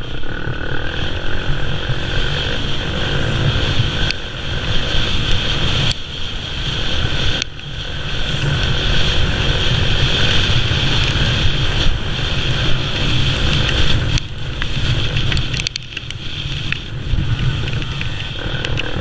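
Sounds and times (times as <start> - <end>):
quad bike engine running: 0.0 - 19.0
wind buffeting microphone: 0.0 - 19.0.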